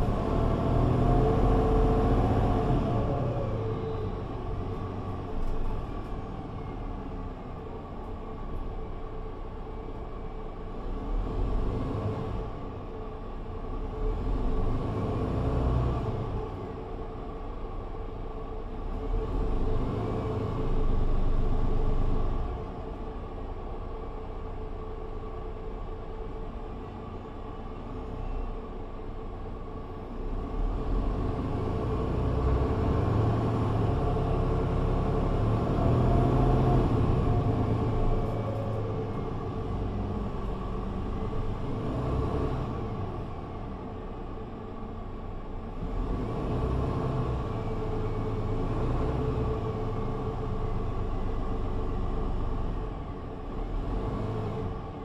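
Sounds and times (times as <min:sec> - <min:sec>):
bus engine drone: 0:00.0 - 0:55.0
deep road rumble: 0:00.0 - 0:55.0.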